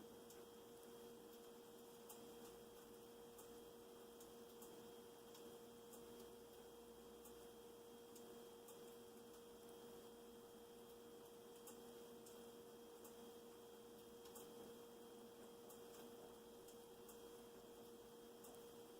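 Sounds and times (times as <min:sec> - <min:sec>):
faint electrical hum: 0:00.0 - 0:18.9
faint ticks: 0:00.2 - 0:09.5, 0:10.8 - 0:13.3, 0:13.9 - 0:14.7, 0:15.4 - 0:18.8.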